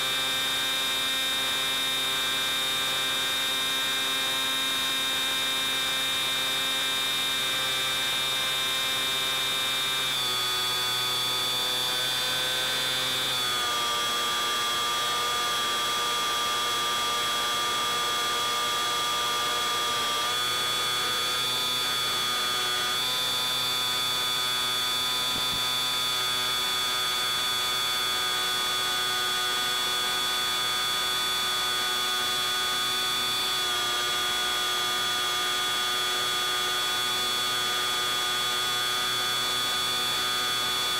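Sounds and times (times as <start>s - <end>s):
model plane motor buzzing whine: 0.0s - 40.9s.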